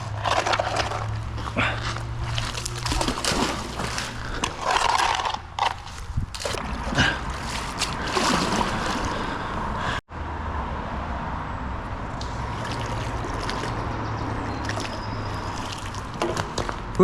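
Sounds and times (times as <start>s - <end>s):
water sloshing and trickling: 0.0s - 10.0s, 11.8s - 17.0s.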